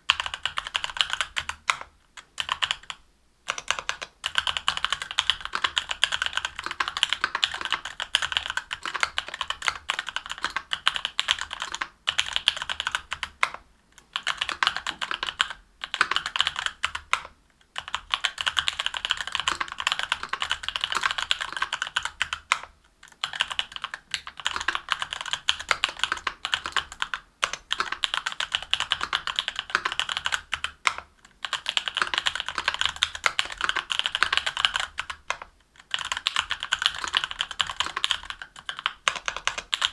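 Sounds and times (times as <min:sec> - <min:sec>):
typing on mechanical keyboard: 0:00.1 - 0:39.9.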